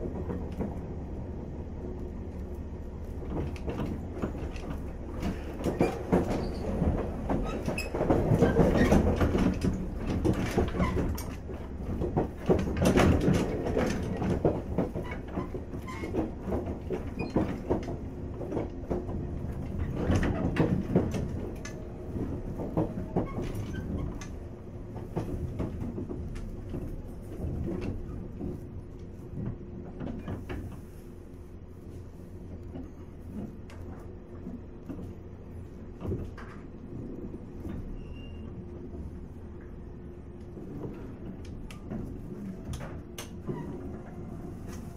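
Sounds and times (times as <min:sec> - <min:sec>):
rail joint clicks: 0:00.0 - 0:44.9
train motors rumbling and humming: 0:00.0 - 0:44.9.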